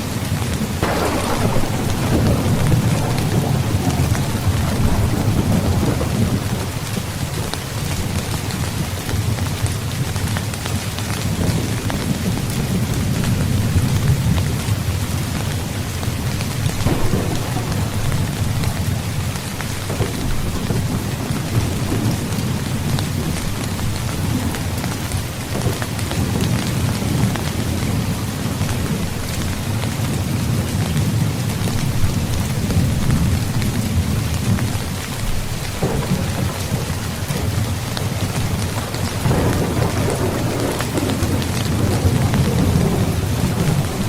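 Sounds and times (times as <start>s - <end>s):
heavy rain: 0.0s - 44.0s
rolling thunder: 0.4s - 44.0s.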